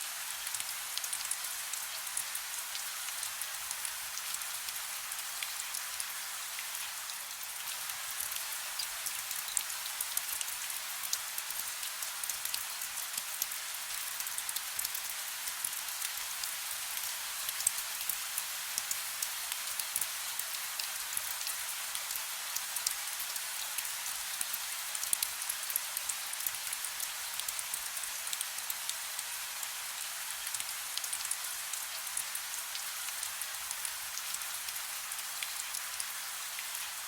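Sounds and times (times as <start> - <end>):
soft steady rain: 0.0 - 37.0
small raindrop ticks: 0.2 - 37.0.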